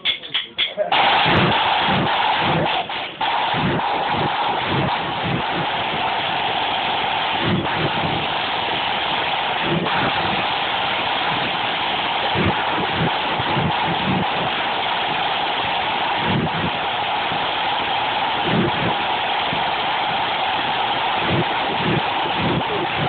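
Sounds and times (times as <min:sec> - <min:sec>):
snare drums rolling: 0:00.9 - 0:23.0.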